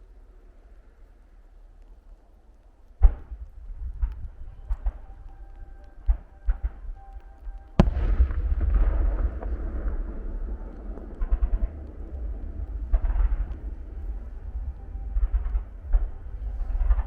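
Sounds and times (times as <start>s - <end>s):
fireworks crackling: 0.0s - 17.0s
fireworks bursting: 2.7s - 17.0s.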